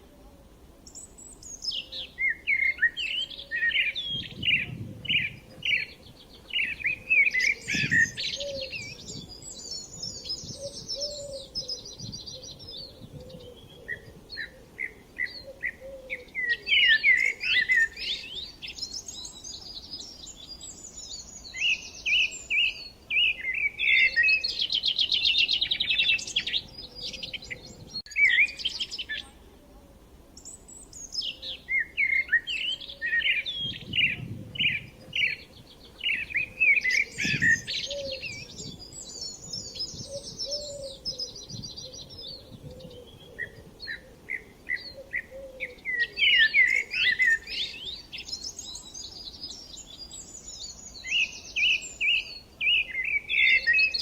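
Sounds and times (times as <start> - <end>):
songbirds singing: 0.7 - 54.0.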